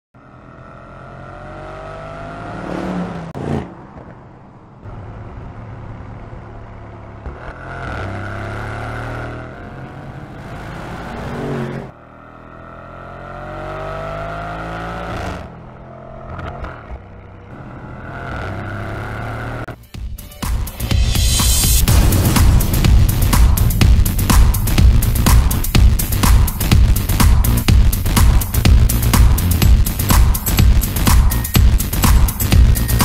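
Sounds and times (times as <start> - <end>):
car engine revving up: 0.2 - 3.8, 7.1 - 19.8, 20.8 - 33.0.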